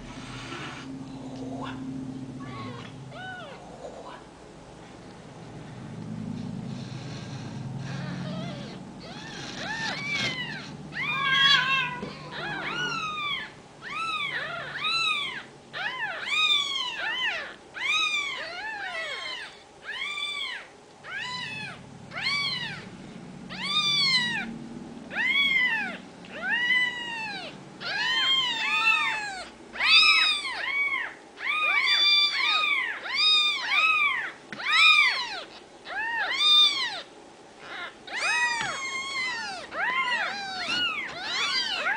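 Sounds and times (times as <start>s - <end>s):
kittens mewing: 0.0s - 4.4s, 6.7s - 41.9s.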